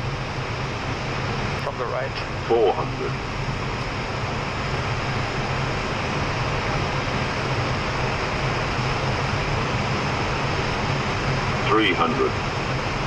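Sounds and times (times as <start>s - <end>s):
cockpit airflow and engine noise: 0.0s - 13.0s
low hum: 0.0s - 13.0s.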